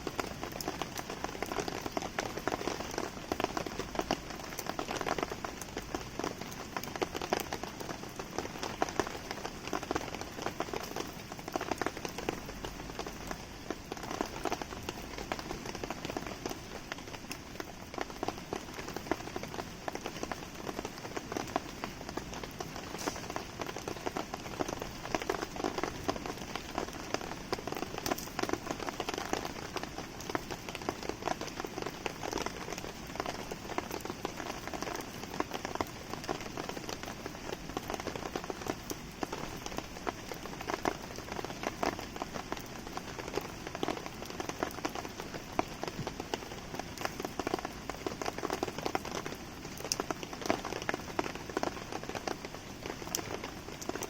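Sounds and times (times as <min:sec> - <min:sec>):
campfire crackling: 0:00.0 - 0:54.0
rain pattering: 0:00.0 - 0:54.0.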